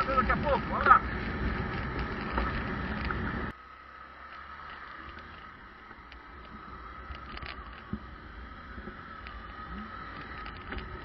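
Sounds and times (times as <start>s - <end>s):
motorcycle engine rumble: 0.0s - 11.0s
wind: 0.0s - 11.0s.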